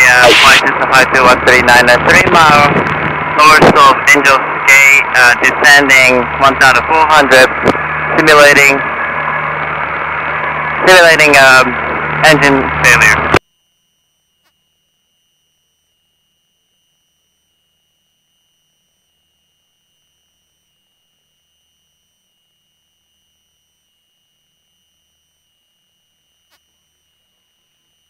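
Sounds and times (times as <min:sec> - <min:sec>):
high-pitched electronic whine: 0:00.0 - 0:28.0
low hum: 0:00.0 - 0:28.0.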